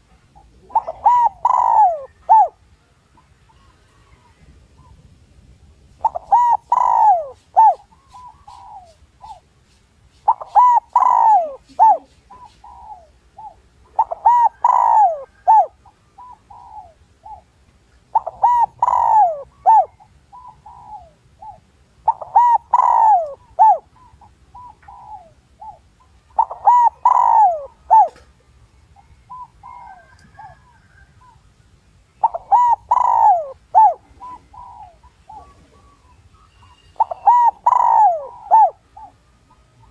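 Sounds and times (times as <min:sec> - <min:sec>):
dove cooing: 0:00.0 - 0:05.1, 0:06.0 - 0:09.5, 0:10.2 - 0:31.5, 0:32.2 - 0:39.9.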